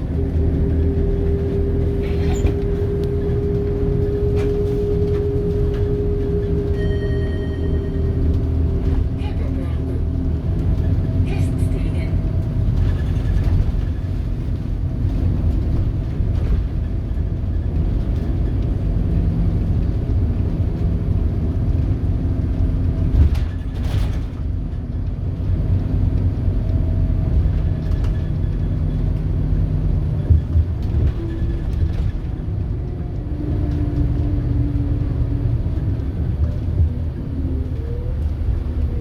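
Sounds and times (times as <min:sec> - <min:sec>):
bus diesel engine drone: 0:00.0 - 0:39.0.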